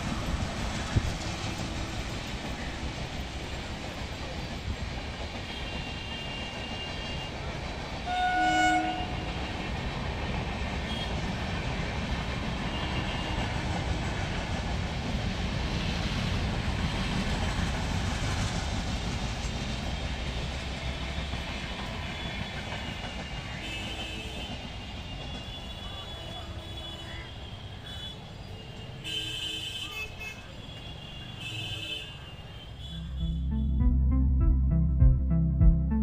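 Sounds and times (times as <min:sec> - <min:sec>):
train rumbling past: 0:00.0 - 0:28.0, 0:32.7 - 0:36.0.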